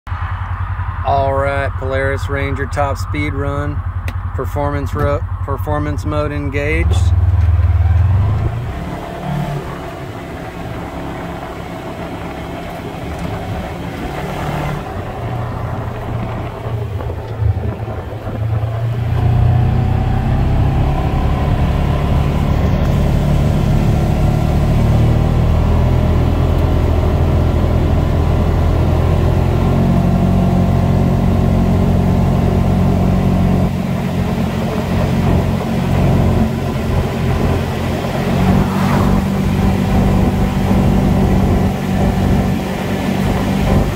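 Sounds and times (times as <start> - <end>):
utility vehicle engine at full throttle: 0.1 - 43.9.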